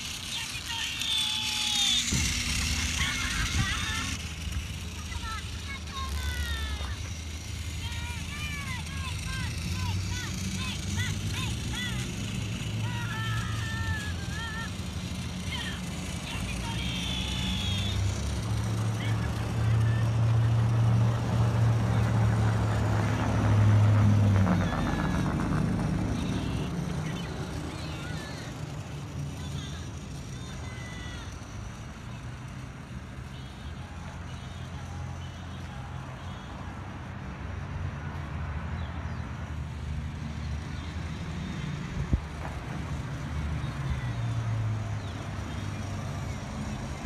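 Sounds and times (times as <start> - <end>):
road traffic rumble: 0.0 - 47.0
vehicle engine running: 0.0 - 47.0.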